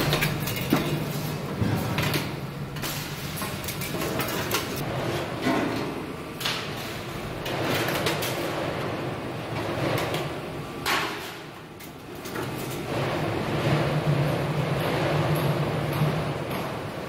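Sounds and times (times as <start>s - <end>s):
busy workshop background: 0.0s - 17.0s.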